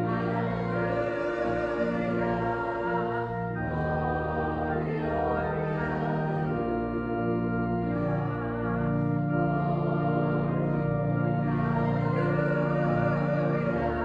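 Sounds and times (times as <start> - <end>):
choir singing: 0.0 - 14.0
organ chords: 0.0 - 14.0.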